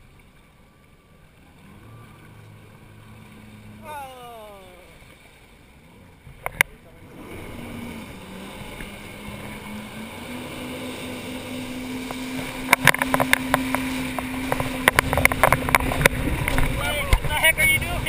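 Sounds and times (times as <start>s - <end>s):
personal watercraft engine: 0.0s - 18.0s
water rushing along hull: 0.0s - 18.0s.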